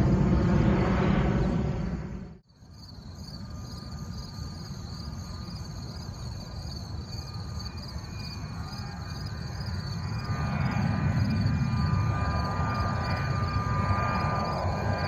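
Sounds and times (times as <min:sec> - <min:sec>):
distant jet engine rumble: 0:00.0 - 0:15.0
insects trilling: 0:02.5 - 0:15.0.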